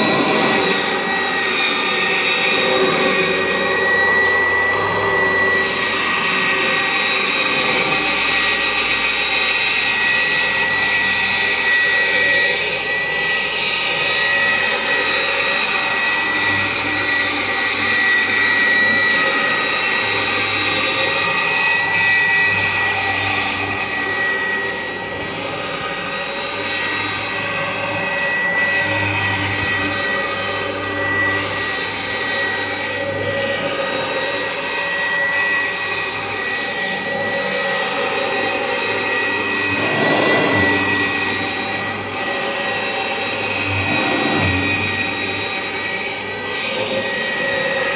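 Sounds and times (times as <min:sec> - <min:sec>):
vacuum cleaner motor drone: 0:00.0 - 0:47.9.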